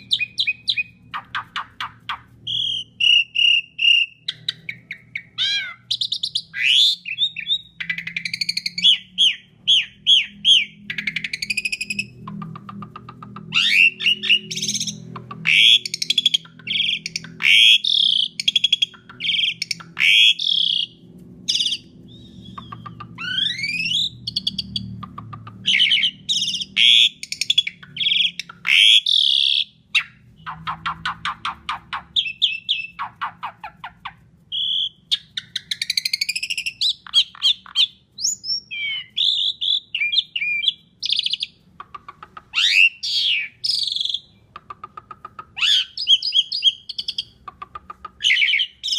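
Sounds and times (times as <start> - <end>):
starling singing: 0.0 - 48.9.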